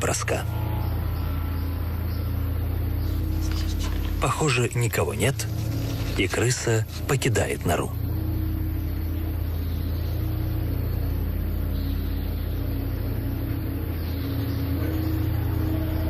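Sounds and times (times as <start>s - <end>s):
droning suspense music: 0.0s - 16.0s
held higher notes: 0.0s - 16.0s.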